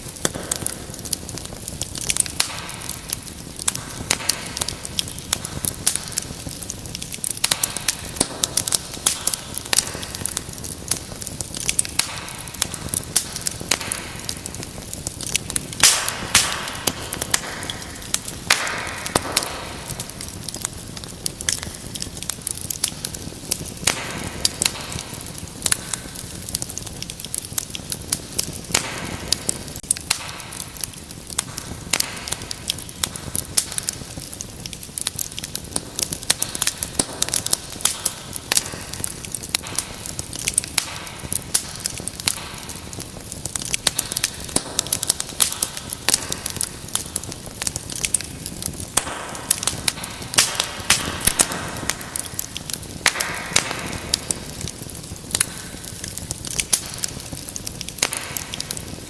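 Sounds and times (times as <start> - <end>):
fire hissing: 0.0 - 59.0
wood fire crackling: 0.0 - 59.0.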